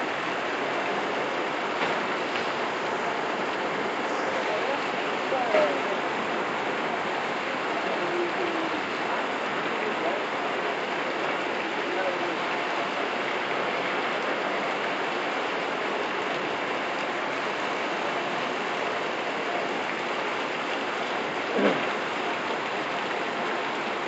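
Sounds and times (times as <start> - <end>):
rain falling: 0.0 - 24.0
water running over street: 0.0 - 24.0.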